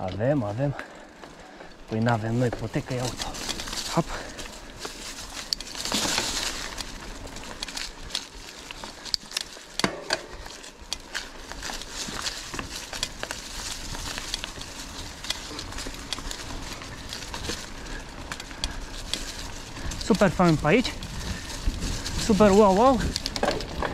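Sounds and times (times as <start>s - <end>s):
bike tyres crackling over ground: 0.0s - 23.9s.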